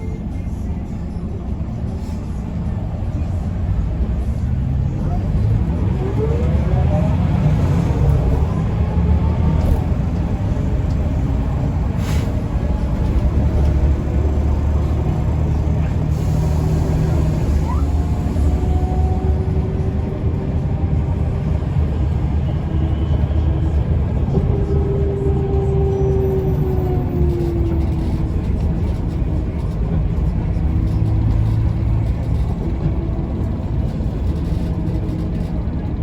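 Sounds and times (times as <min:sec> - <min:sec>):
bus engine drone from inside: 0:00.0 - 0:36.0
road noise: 0:00.0 - 0:36.0.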